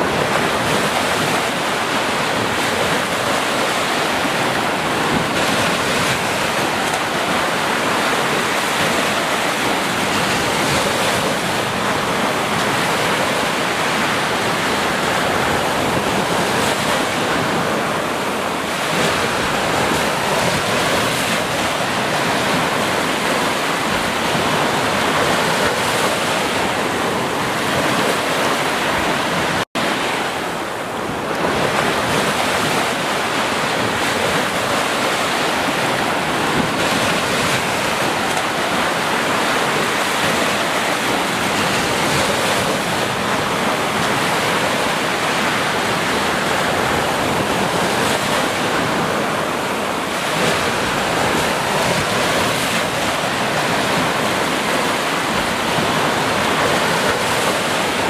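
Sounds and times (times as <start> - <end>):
ocean surf on beach: 0.0 - 58.0
wind: 0.0 - 58.0.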